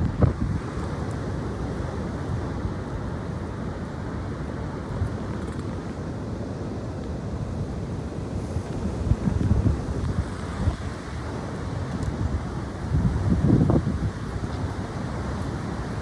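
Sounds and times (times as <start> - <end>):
strong wind blowing: 0.0 - 16.0.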